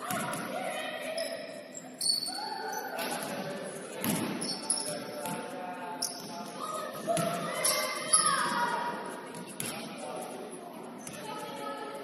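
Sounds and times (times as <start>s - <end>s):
voices echoing in hall: 0.0s - 12.0s.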